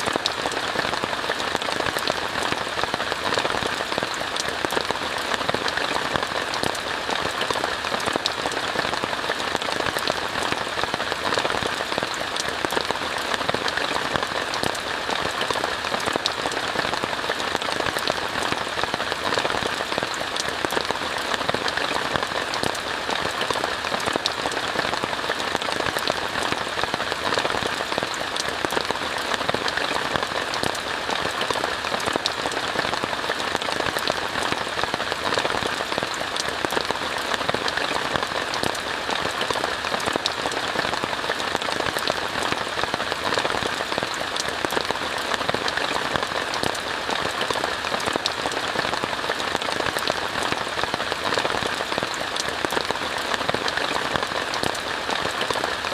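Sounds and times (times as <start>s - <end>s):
rain falling on a tent: 0.0s - 55.9s.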